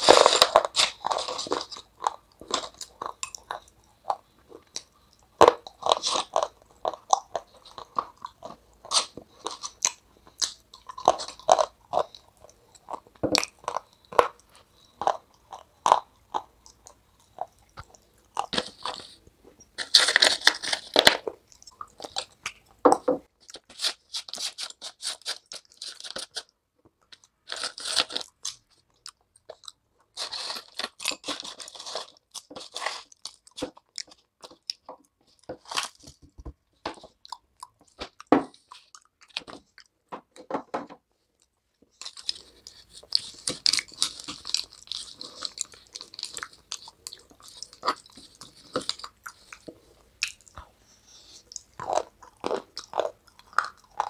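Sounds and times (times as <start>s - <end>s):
crunching and chewing dry food: 0.0s - 40.6s, 41.2s - 54.0s.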